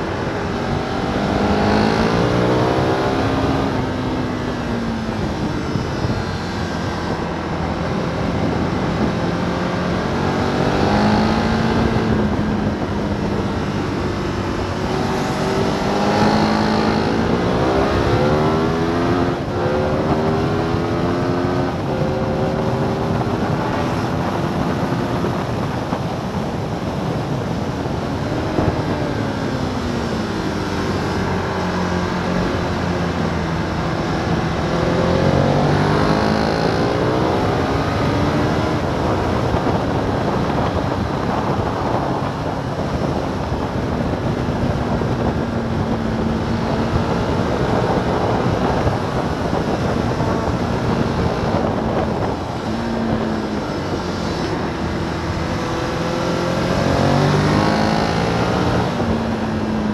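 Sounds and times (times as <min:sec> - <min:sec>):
motorcycle engine revving: 0:00.0 - 0:59.9
wind noise rushing: 0:00.0 - 0:59.9.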